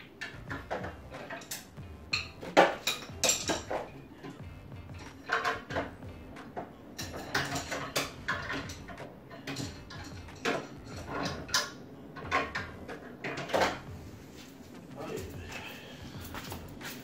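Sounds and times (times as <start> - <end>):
metal objects clinking: 0.1 - 13.9.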